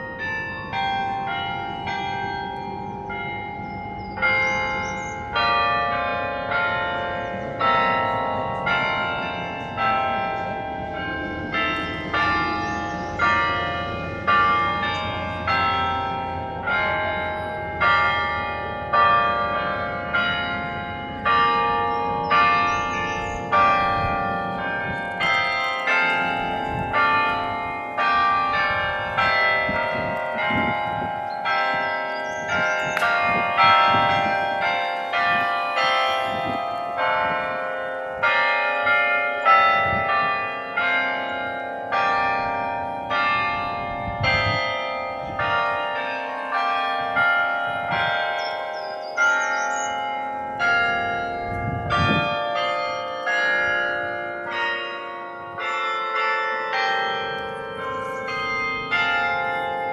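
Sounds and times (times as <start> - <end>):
carillon bells ringing melody: 0.0 - 59.9.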